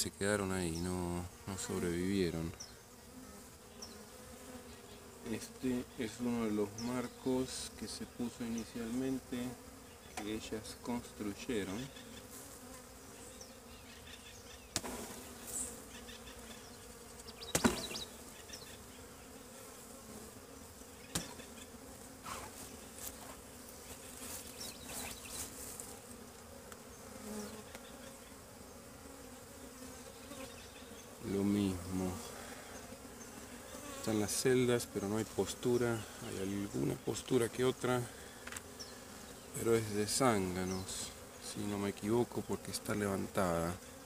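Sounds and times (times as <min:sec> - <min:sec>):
close bee buzz passing: 0:00.0 - 0:44.0
honeybees buzzing: 0:00.0 - 0:44.0.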